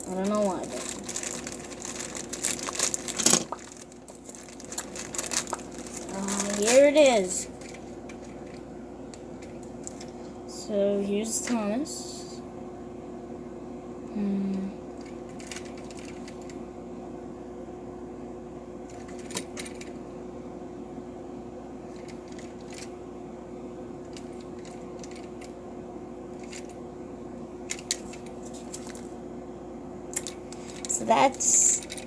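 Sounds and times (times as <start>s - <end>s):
background hum: 0.0s - 32.0s.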